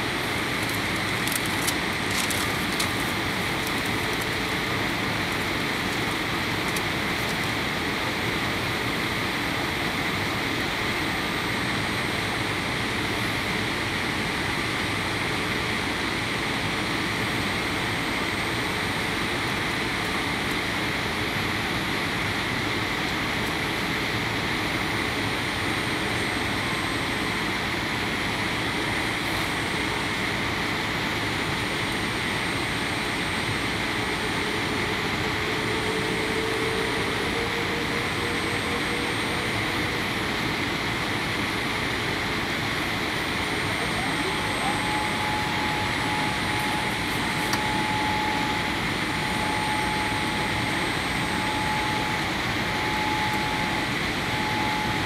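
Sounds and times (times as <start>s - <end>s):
airplane cabin engine rush: 0.0s - 55.0s.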